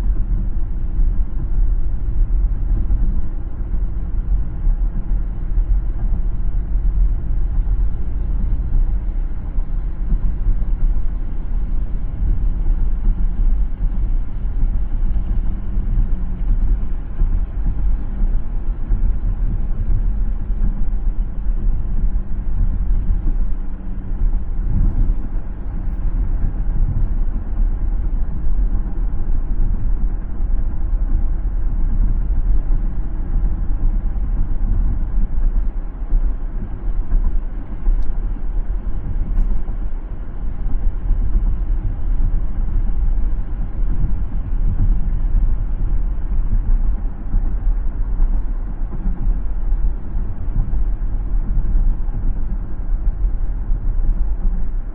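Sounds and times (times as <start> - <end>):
car road rumble: 0.0 - 54.9.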